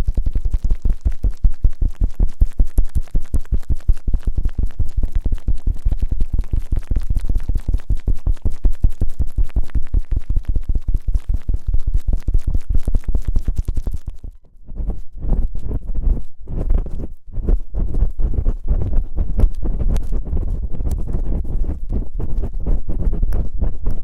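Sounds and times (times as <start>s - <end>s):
rubbing and scraping on microphone: 0.0s - 24.0s.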